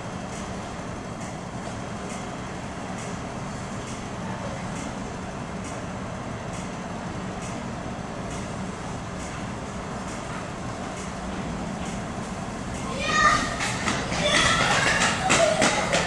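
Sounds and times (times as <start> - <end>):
electric train rumble: 0.0 - 16.0.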